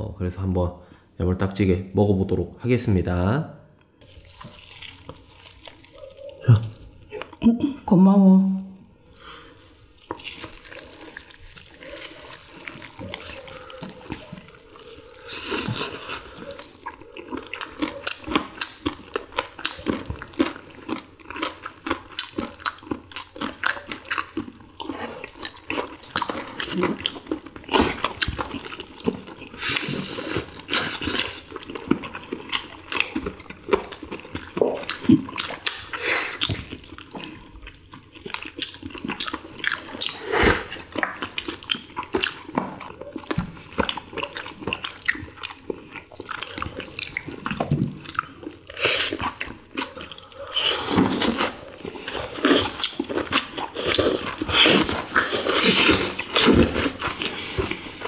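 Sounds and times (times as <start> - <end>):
wet chewing and lip smacking: 4.2 - 7.5, 8.9 - 58.0.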